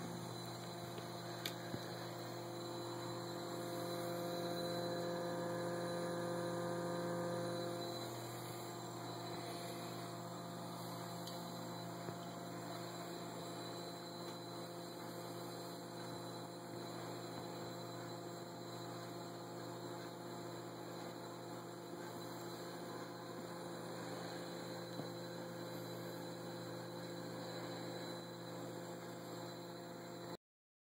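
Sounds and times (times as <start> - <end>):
electrical device humming: 0.0 - 30.4.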